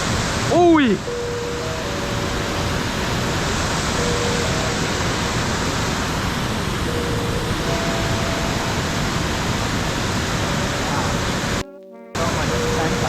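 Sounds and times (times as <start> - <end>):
waterfall rushing: 0.0 - 11.6, 12.2 - 13.0.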